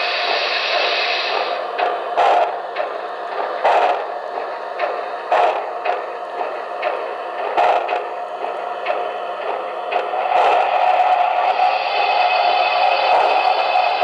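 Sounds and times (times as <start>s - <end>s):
model steam locomotive sound: 0.0s - 14.0s.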